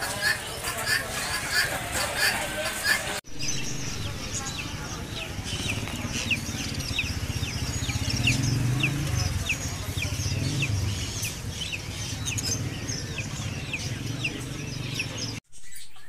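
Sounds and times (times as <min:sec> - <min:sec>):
low background rumble and murmur: 0:00.0 - 0:15.4
small birds chirping: 0:00.0 - 0:16.0.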